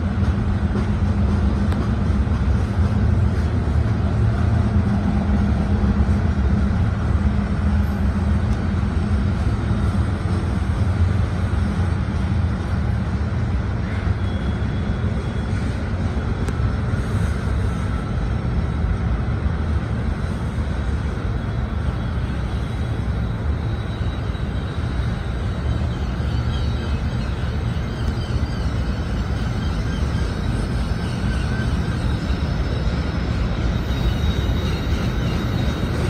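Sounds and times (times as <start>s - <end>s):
freight train rumbling past: 0.0s - 36.0s.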